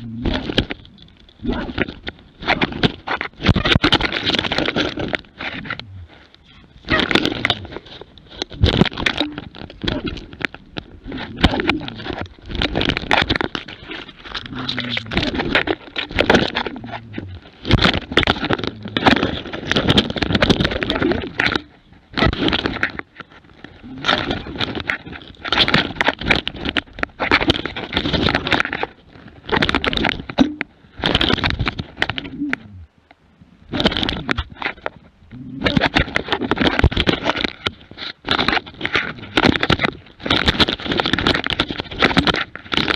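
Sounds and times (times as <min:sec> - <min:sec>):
twigs scraping over camera: 0:00.0 - 0:42.9.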